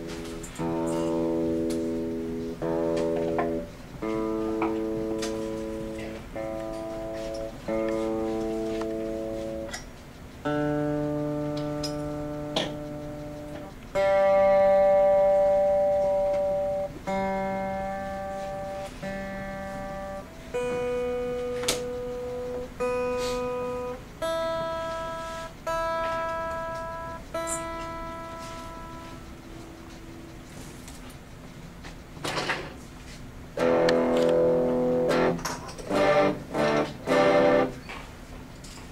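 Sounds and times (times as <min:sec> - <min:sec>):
guitar strings plucked: 0:00.0 - 0:30.5, 0:33.6 - 0:37.9.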